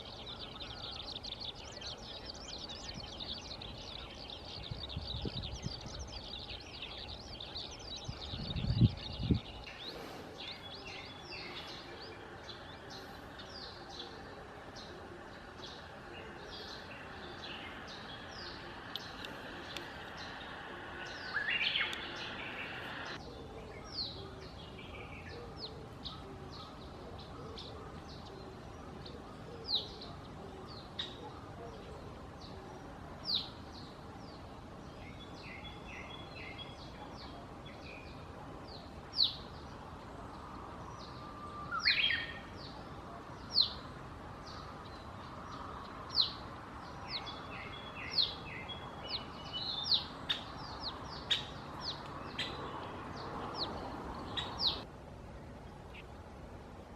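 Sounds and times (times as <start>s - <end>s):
birds chattering: 0.0s - 54.9s
background hiss: 0.0s - 56.9s.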